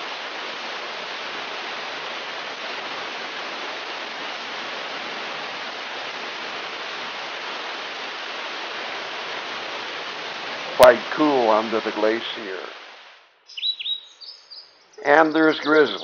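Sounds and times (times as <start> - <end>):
meltwater rushing under ice: 0.0 - 13.0.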